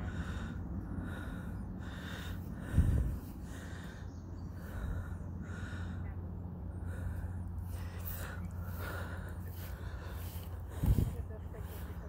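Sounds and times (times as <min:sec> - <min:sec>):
heavy rhythmic breathing: 0:00.0 - 0:12.0.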